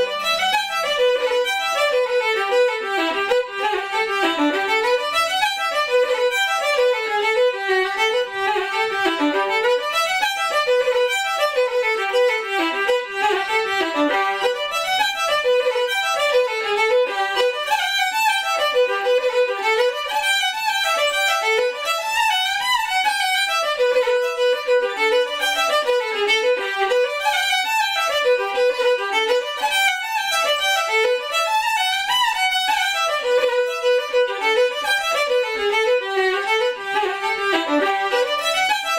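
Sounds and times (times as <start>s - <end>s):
fiddle dance tune: 0.0s - 38.9s.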